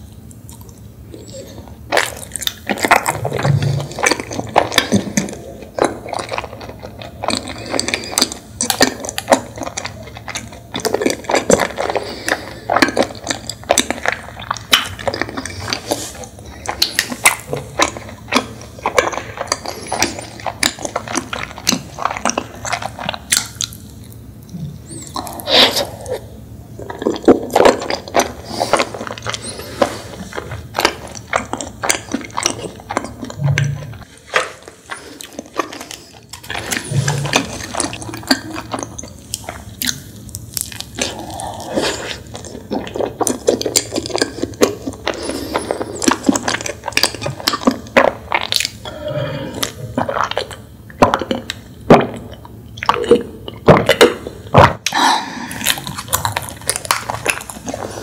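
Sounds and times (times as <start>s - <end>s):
wet chewing and mouth clicks: 0.0s - 58.0s.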